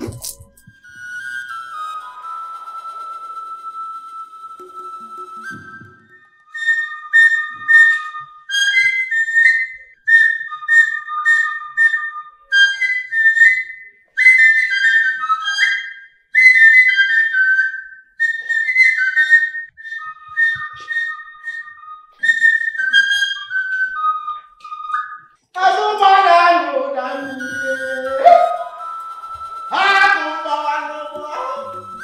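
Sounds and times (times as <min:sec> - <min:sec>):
flute playing lively melody: 0:00.0 - 0:32.0.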